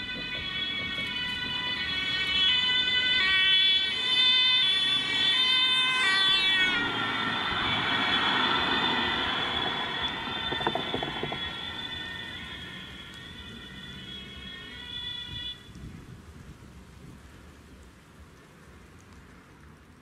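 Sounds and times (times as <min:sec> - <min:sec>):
two-tone police siren passing: 0:00.0 - 0:16.6.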